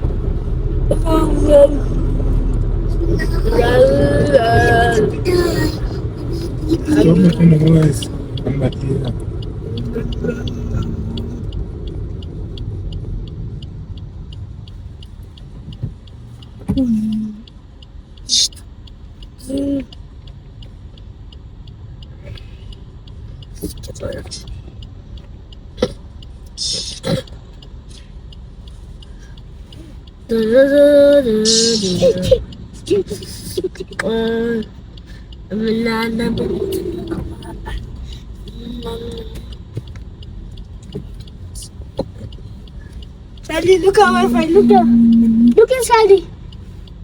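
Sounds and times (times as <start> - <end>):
car cabin hum: 0.0 - 47.0
engine and road rumble: 0.0 - 47.0
even ticking: 0.0 - 47.0.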